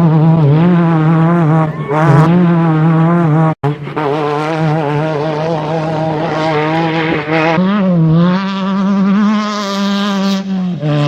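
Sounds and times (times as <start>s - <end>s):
engine running at high revs: 0.0s - 11.0s.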